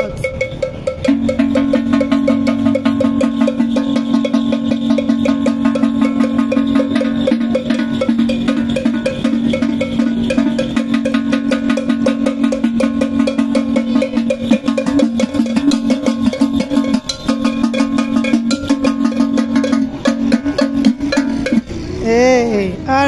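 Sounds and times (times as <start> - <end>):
fast percussion strikes: 0.0 - 23.0
steady held tone: 0.0 - 23.0.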